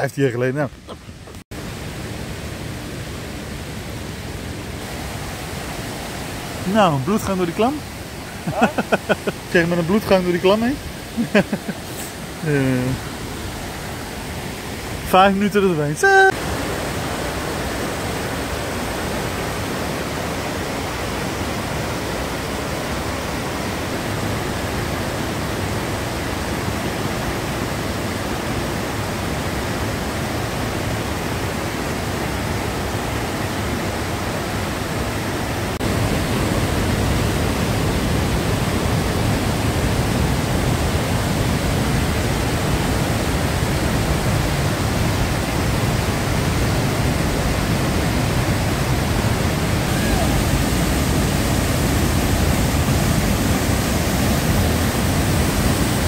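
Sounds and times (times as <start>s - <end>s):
river rushing over rocks: 1.1s - 56.0s.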